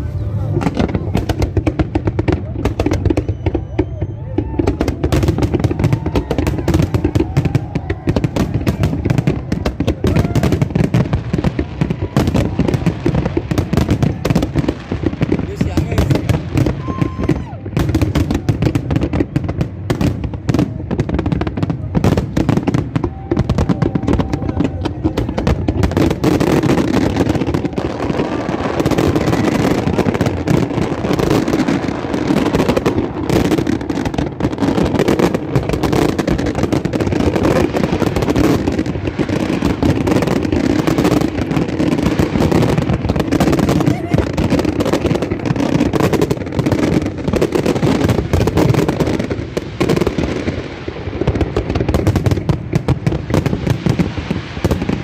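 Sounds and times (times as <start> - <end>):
crowd chatter: 0.0 - 55.0
fireworks bangs and crackles: 0.0 - 55.0.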